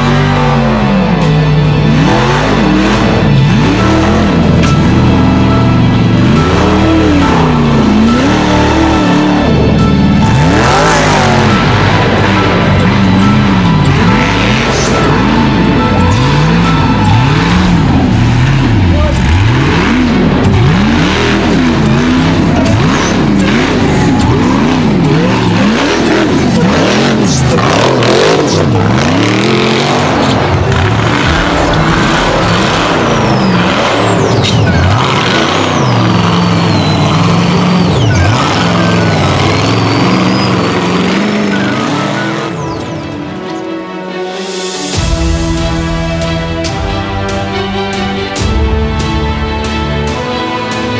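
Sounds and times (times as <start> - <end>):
race vehicle engines revving: 0.0 - 50.9.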